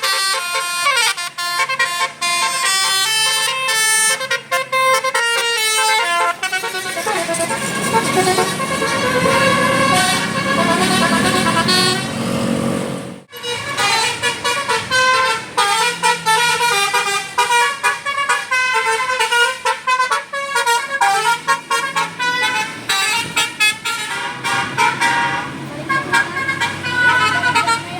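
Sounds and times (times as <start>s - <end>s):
musical bus air horn tune: 0.0s - 27.9s.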